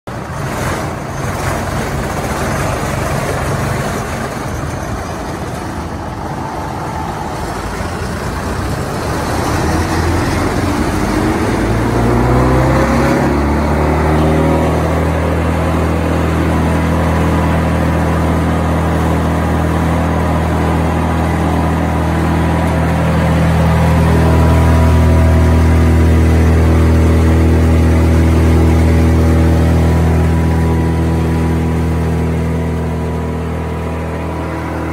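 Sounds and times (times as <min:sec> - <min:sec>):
wood chipper engine revving: 0:00.1 - 0:34.9.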